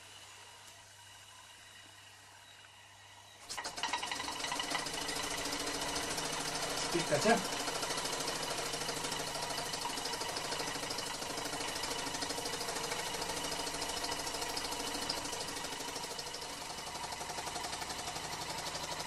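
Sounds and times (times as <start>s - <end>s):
model steam engine running: 0.0s - 19.0s
engine vibrating on base: 3.0s - 19.0s.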